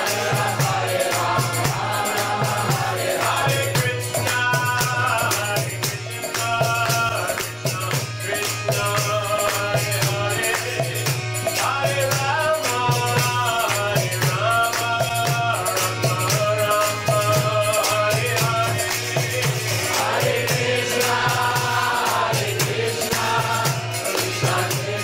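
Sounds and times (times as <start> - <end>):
hand cymbals clashing: 0.0 - 25.0
hand drum: 0.0 - 25.0
voices singing a chant: 0.0 - 25.0.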